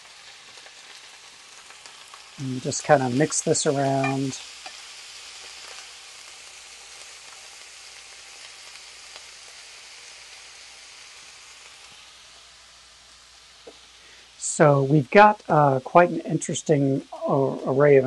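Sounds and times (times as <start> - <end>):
vegetables sizzling in a skillet: 0.0 - 18.0.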